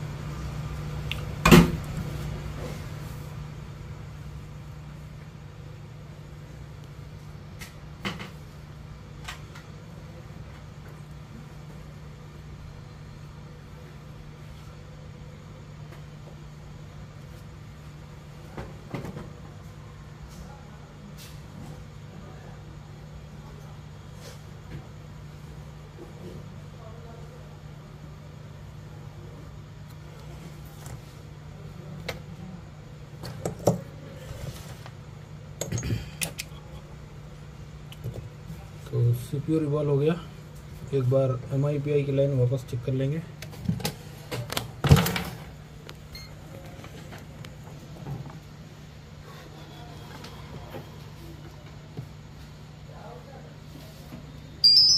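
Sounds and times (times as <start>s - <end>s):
low electrical hum: 0.0s - 54.9s.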